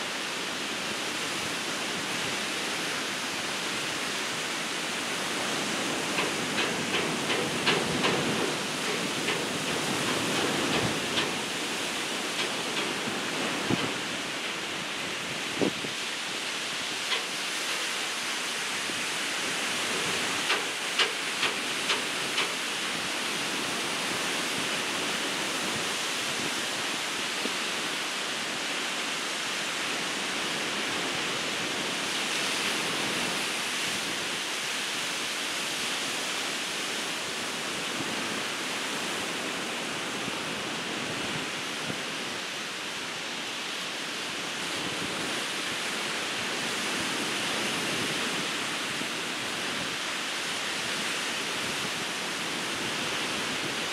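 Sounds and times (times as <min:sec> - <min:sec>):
ocean surf breaking: 0:00.0 - 0:53.9.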